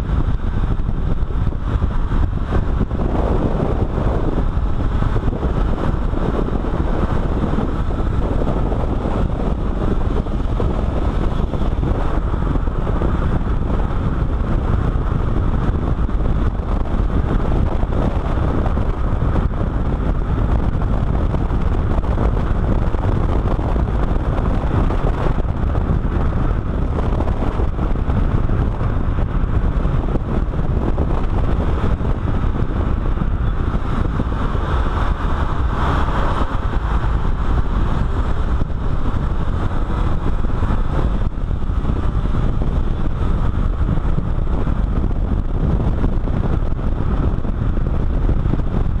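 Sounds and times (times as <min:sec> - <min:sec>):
tyre and road noise: 0:00.0 - 0:49.0
wind rushing over microphone: 0:00.0 - 0:49.0.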